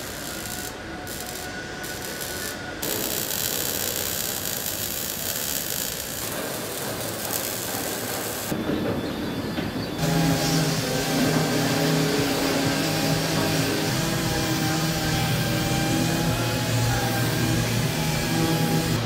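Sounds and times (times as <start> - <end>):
welding hiss: 0.0 - 8.6, 10.0 - 19.0.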